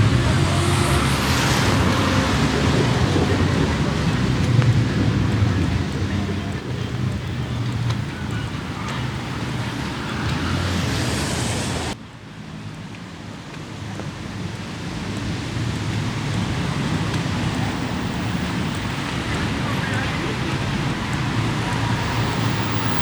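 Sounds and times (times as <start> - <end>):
car tyres hissing on wet road: 0.0 - 12.4, 13.2 - 23.0
cars passing: 0.0 - 12.7, 14.0 - 23.0.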